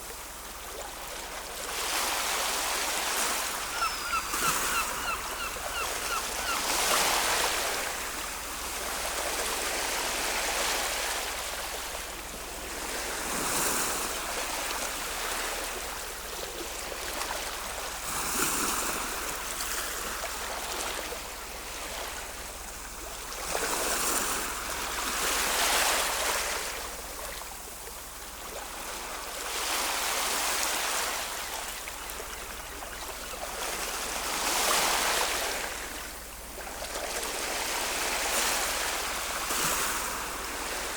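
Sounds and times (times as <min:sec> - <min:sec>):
ocean waves breaking: 0:00.0 - 0:27.7, 0:28.6 - 0:40.9.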